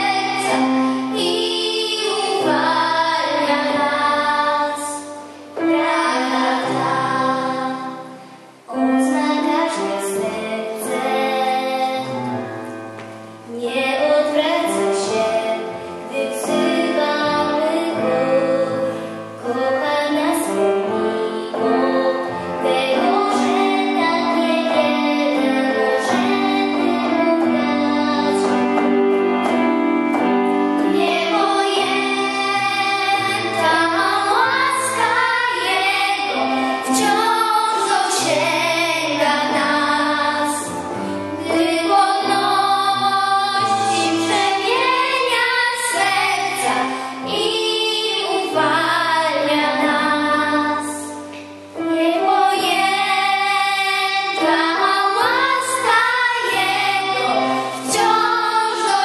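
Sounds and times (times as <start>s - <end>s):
children's backing chorus: 0.0s - 59.0s
instrumental accompaniment: 0.0s - 59.0s.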